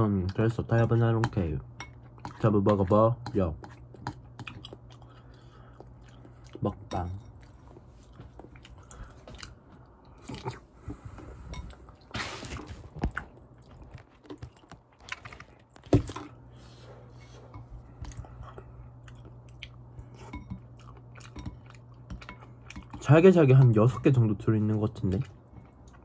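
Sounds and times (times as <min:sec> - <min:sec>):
person chewing food: 0:01.9 - 0:26.0.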